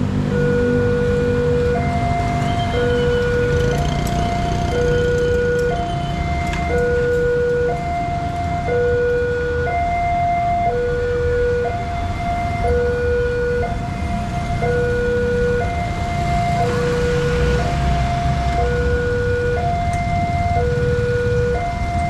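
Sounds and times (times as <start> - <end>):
motorcycle and car engines: 0.0 - 22.0
two-tone level crossing alarm: 0.2 - 22.0.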